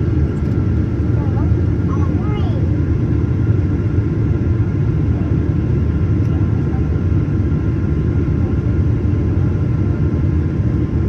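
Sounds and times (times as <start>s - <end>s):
airplane engines rumbling in cabin: 0.0s - 11.0s.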